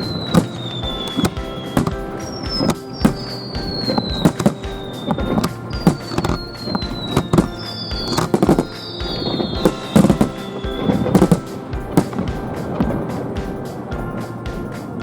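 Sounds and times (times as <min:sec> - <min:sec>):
descending firework whistles: 0:00.0 - 0:13.3
fireworks bangs: 0:00.0 - 0:13.4.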